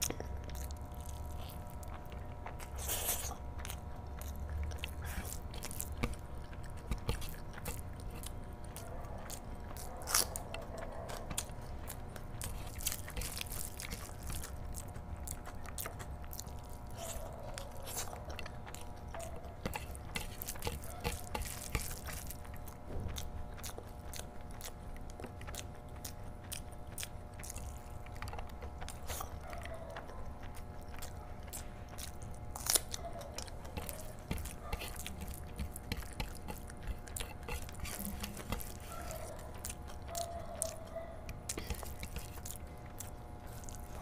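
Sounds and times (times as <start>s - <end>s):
faint steady hum: 0.0s - 44.0s
person chewing food: 0.0s - 44.0s.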